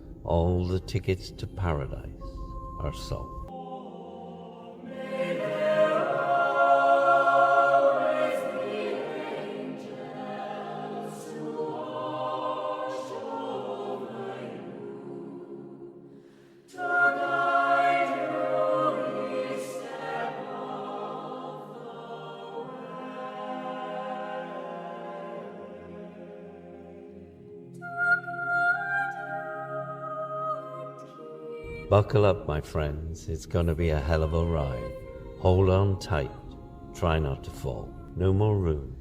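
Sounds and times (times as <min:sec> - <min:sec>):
choir holding chords: 0:00.0 - 0:39.0.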